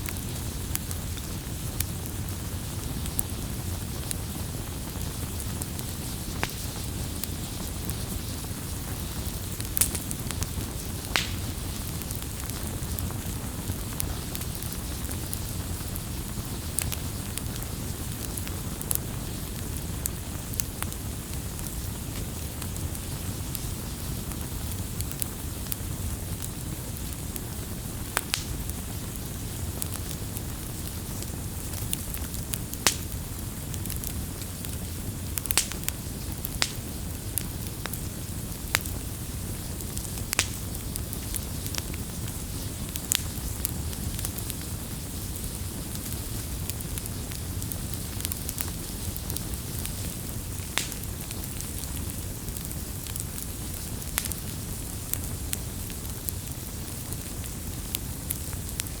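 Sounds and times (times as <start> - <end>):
burning wood crackling and popping: 0.0 - 59.0
campfire burning with low rush: 0.0 - 59.0.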